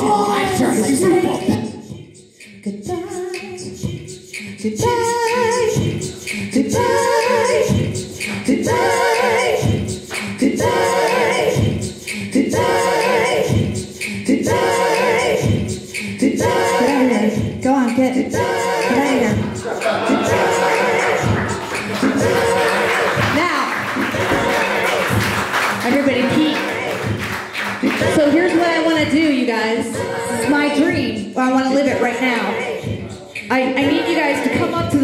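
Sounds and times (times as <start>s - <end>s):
woman singing wordless vocal loop: 0.0s - 35.0s.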